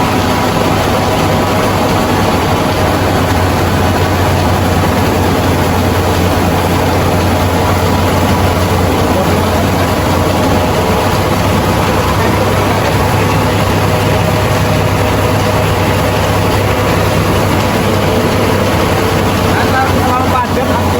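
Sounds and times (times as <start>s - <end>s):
milling machine drone: 0.0s - 20.9s.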